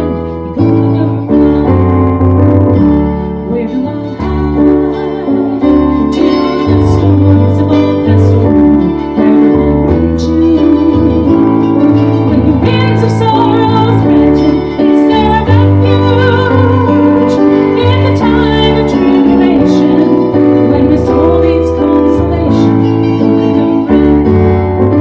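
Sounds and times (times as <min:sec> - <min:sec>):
woman singing a hymn: 0:00.0 - 0:02.2, 0:03.4 - 0:24.4
deep held bass notes: 0:00.0 - 0:03.7, 0:04.3 - 0:25.0
picked mandolin: 0:00.0 - 0:25.0.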